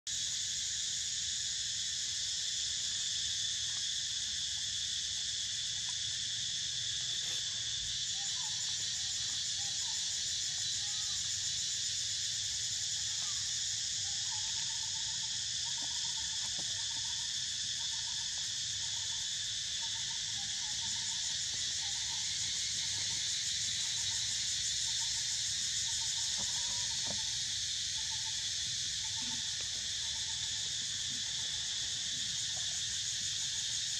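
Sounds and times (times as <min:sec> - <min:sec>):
high-pitched insect chorus: 0:00.1 - 0:33.9.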